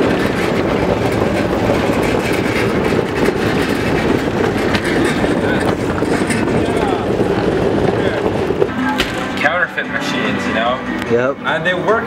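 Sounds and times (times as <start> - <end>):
cabinet wheels rumbling on pavement: 0.0 - 10.8.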